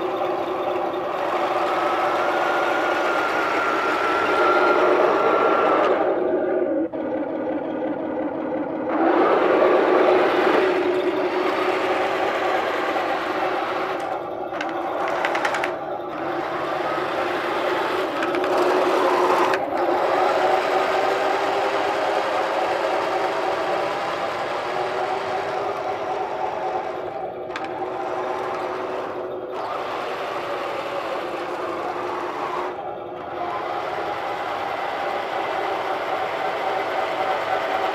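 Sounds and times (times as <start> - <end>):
electric motors whining: 0.0 - 37.9
simulated tank engine drone: 0.0 - 37.9.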